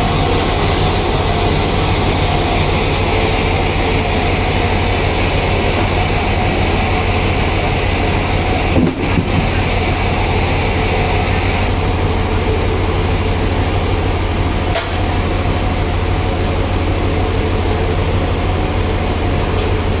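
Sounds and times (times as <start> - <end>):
high-pitched whine: 0.0 - 20.0
sawmill machinery humming: 0.0 - 20.0.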